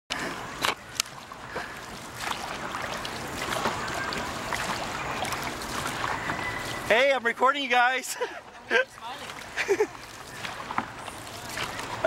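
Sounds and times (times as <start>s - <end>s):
paddles dipping through water: 0.1s - 12.0s.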